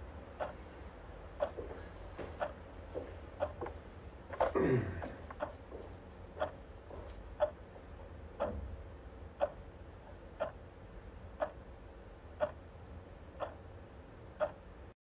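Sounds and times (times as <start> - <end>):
clock ticking: 0.3 - 14.9.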